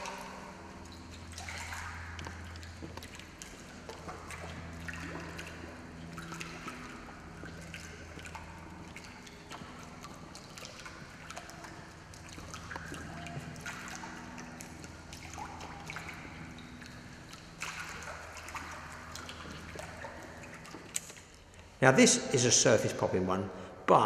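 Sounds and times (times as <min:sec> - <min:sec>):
low hum: 0:00.0 - 0:21.7.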